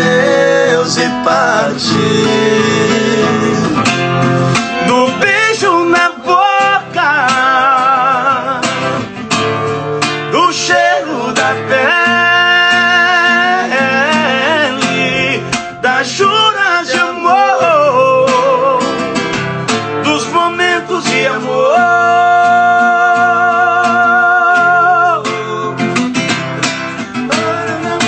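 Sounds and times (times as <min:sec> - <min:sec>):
man singing a slow ballad: 0:00.0 - 0:03.9, 0:04.7 - 0:09.0, 0:10.3 - 0:19.1, 0:20.0 - 0:26.0, 0:27.2 - 0:28.0
strummed acoustic guitar: 0:00.0 - 0:28.0.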